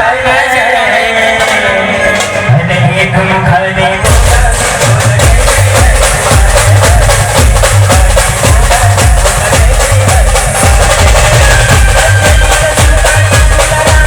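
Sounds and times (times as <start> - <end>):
heavy drum beat: 1.2 - 14.0
loud band music: 1.2 - 14.0.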